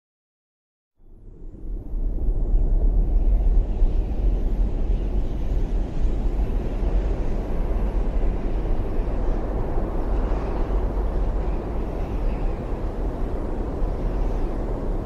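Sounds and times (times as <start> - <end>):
low outdoor rumble: 1.0 - 15.0.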